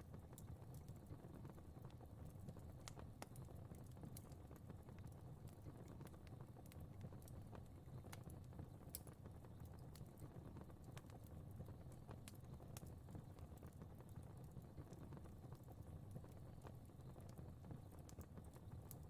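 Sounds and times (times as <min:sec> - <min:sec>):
fire crackling softly: 0:00.0 - 0:19.0.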